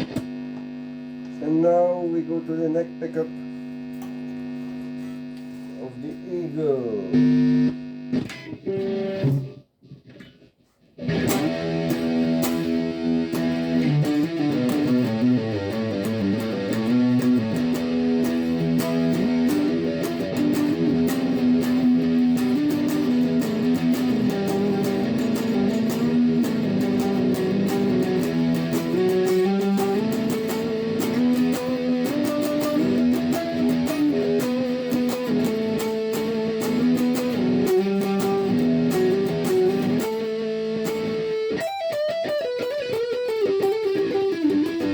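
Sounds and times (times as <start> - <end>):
overdriven electric guitar riff: 0.0 - 44.9.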